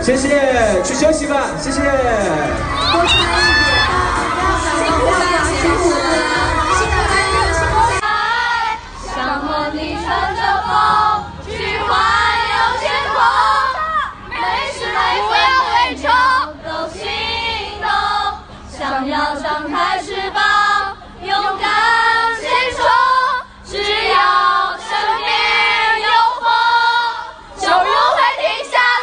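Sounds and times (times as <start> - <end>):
women singing in unison: 3.0 - 29.0.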